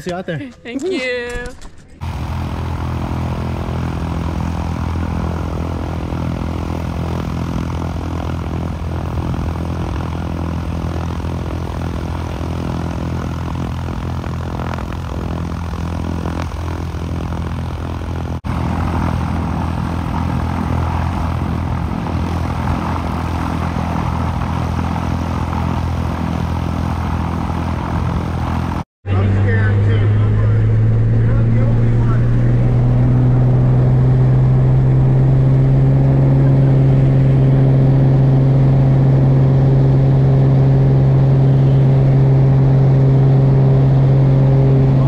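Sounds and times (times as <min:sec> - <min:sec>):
propeller plane engine idling: 0:01.4 - 0:45.0.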